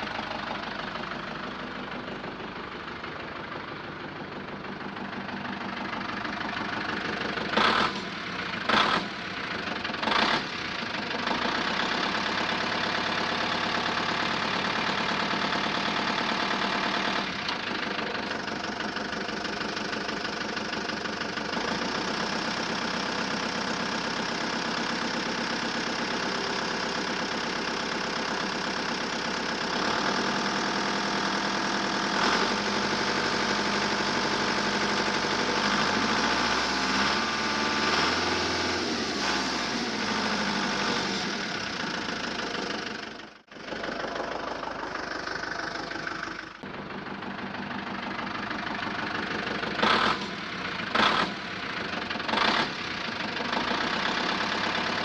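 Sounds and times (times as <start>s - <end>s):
truck engine knocking idle: 0.0s - 55.0s.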